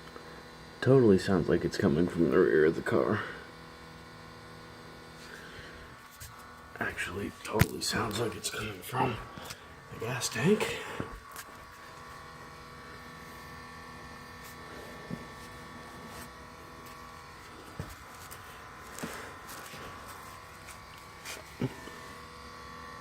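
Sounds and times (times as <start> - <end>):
fuel pump electric hum: 0.0 - 23.0.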